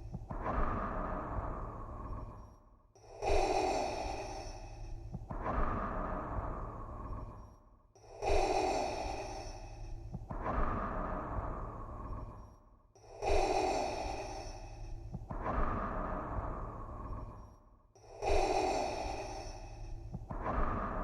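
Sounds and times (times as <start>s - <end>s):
mechanical breathing through a mask: 3.1s - 21.0s.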